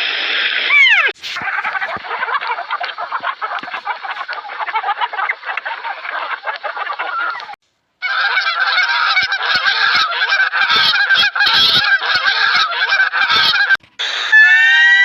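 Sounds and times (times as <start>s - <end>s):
flock of birds calling: 0.7s - 15.0s.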